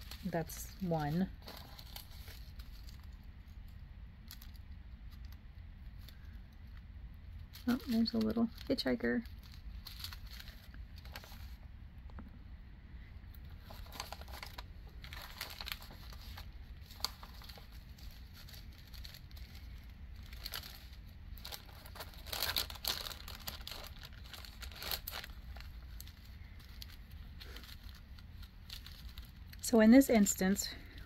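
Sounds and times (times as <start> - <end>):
plastic bags crinkling: 0.0 - 6.4, 7.3 - 11.6, 13.4 - 31.0.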